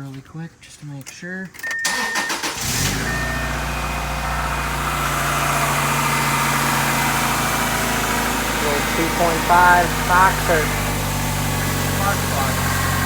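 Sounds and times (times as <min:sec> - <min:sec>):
car starter cranking: 0:01.6 - 0:13.0
car engine idling: 0:01.9 - 0:13.0.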